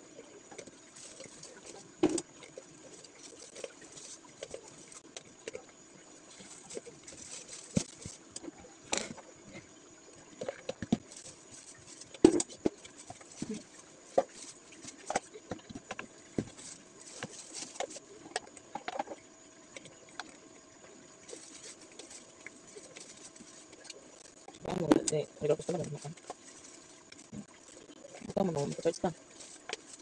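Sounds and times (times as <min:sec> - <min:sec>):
plastic cups crackling and clicking: 0:00.2 - 0:20.4, 0:21.1 - 0:30.0.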